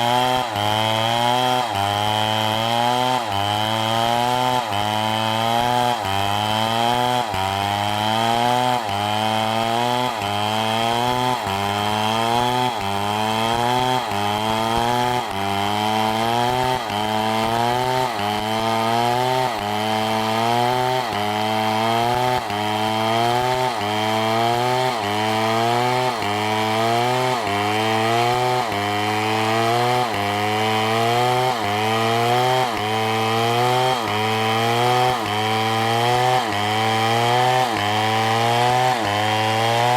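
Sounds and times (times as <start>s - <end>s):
engine-driven saw running: 0.0s - 39.9s.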